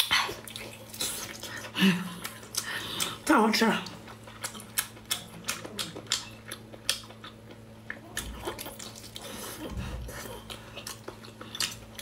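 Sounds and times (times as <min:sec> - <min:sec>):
wet chewing and mouth clicks: 0:00.0 - 0:12.0.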